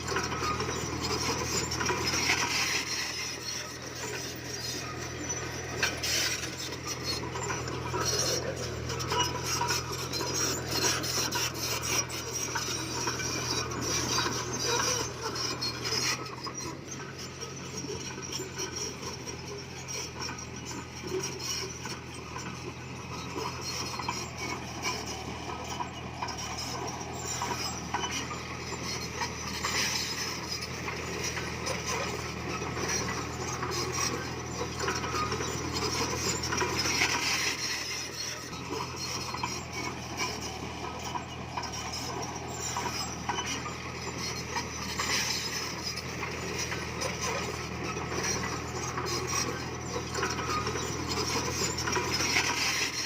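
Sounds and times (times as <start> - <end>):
crawler tracks clanking: 0.0 - 53.0
diesel engine running: 0.0 - 53.0.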